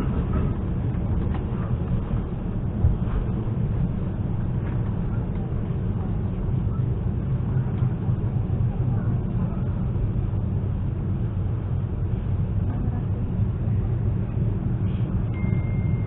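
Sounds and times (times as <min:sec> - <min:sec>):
train interior rumble: 0:00.0 - 0:16.0.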